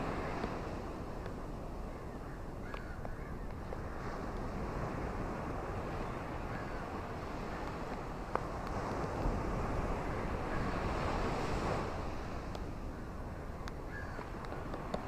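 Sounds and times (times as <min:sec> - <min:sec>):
ocean waves on a beach: 0:00.0 - 0:15.0.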